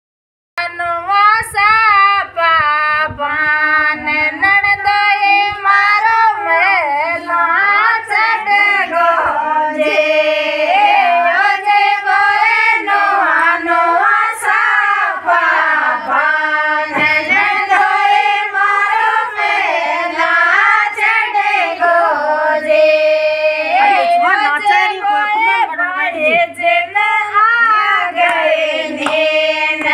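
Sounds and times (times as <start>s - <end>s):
women singing unaccompanied: 0.6s - 29.9s.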